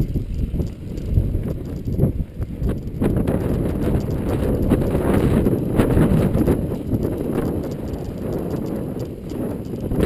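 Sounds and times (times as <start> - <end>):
mountain bike rattling over trail: 0.0 - 10.0
wind buffeting microphone: 0.0 - 10.0.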